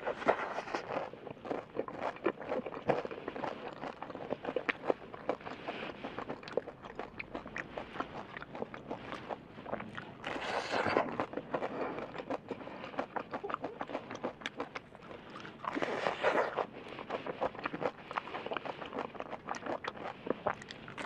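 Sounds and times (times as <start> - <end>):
crunchy chewing: 0.0 - 21.0.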